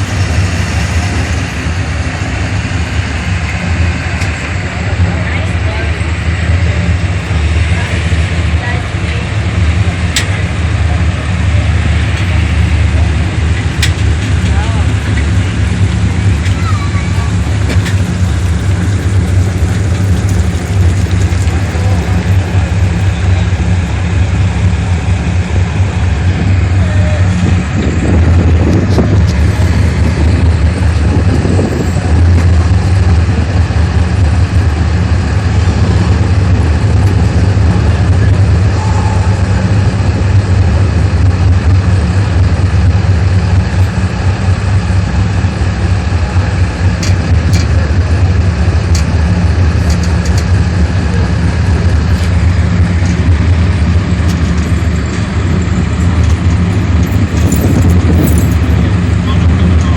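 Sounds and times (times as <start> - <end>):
engine running at low revs: 0.0 - 59.9.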